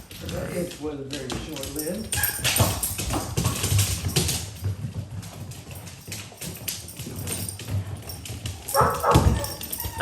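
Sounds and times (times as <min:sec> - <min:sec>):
dog claws clicking on floor: 0:00.0 - 0:10.0.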